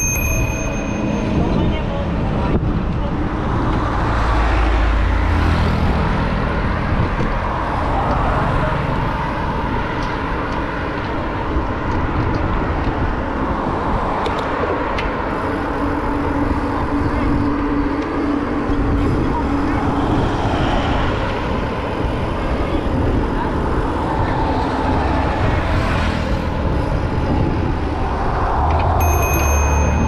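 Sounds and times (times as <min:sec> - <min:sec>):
road and wind noise: 0:00.0 - 0:30.0
vehicle engine noise: 0:00.0 - 0:30.0.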